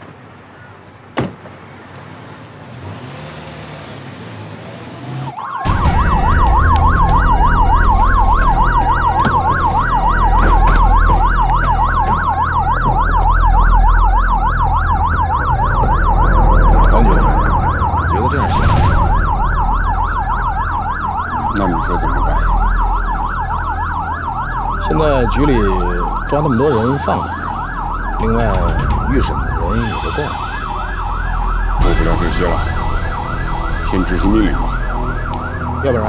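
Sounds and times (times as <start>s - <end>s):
police siren yelping: 4.9s - 36.0s
steady siren tone: 4.9s - 36.0s.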